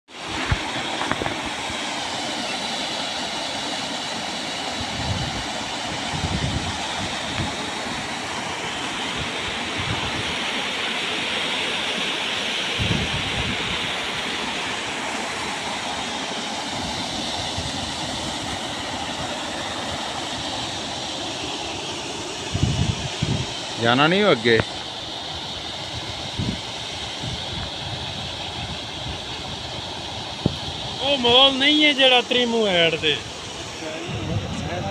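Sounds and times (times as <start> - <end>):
water rushing through gate outlet: 0.1 - 34.9.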